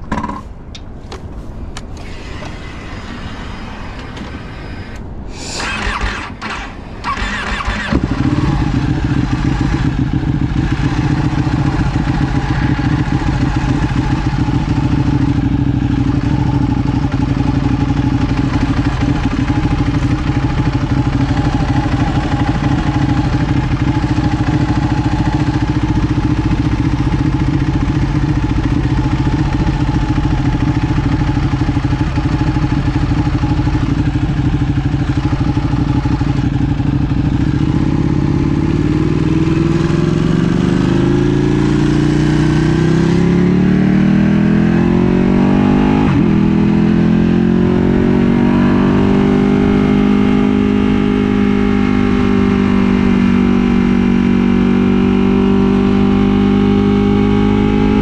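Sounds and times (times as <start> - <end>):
motorcycle engine at low revs: 1.8 - 58.0.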